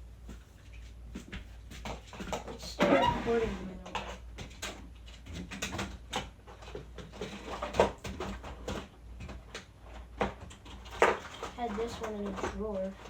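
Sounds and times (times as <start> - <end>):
objects knocking and clicking: 1.1 - 2.8, 3.8 - 13.0.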